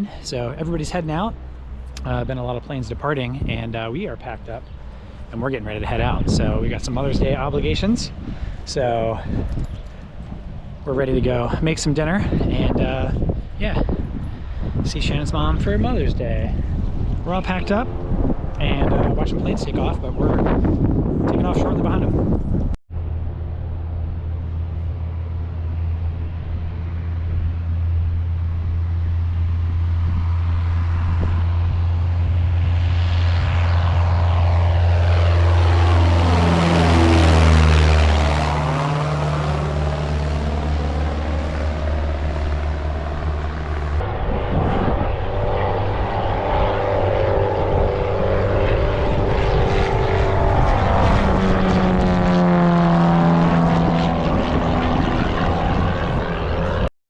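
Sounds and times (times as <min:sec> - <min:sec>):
propeller airplane engine passing: 0:00.0 - 0:56.9
steady propeller engine note: 0:00.0 - 0:56.9.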